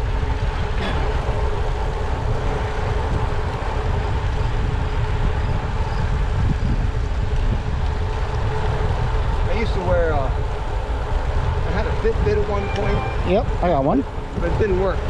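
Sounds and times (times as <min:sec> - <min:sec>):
road and tyre noise: 0:00.0 - 0:15.0
wind rushing over microphone: 0:00.0 - 0:15.0.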